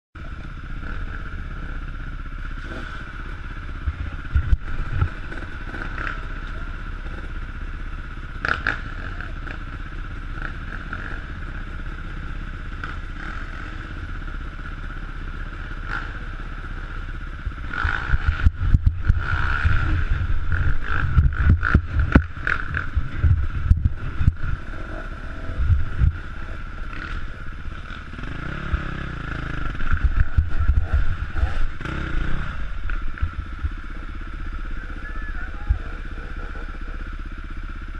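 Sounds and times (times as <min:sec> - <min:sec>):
dirt bike engine running: 0:00.2 - 0:37.9.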